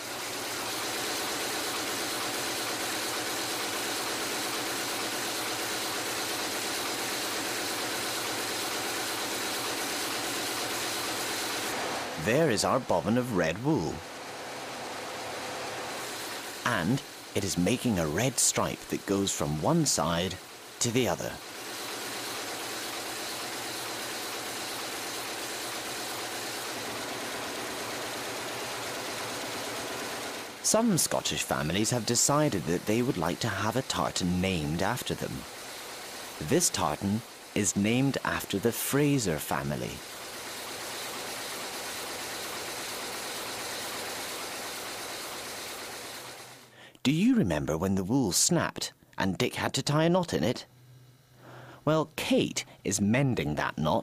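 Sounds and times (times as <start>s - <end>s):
power loom running: 0.0s - 46.8s.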